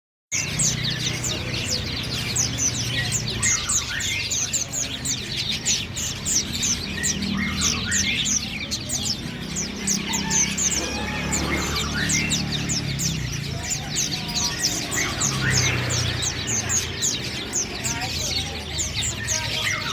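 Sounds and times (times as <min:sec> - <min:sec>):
parakeet chirping: 0:00.3 - 0:19.9.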